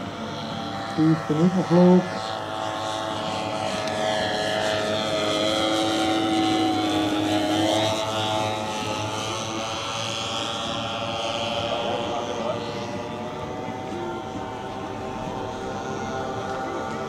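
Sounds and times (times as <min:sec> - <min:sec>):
model plane engines flying past: 0:00.0 - 0:17.0.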